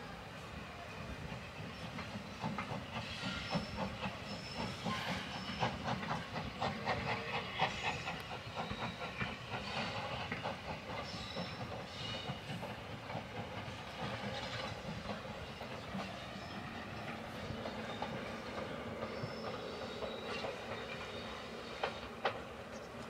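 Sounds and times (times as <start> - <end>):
steady hiss of steam: 0.0 - 23.0
train wheels clicking over rail joints: 1.2 - 23.0.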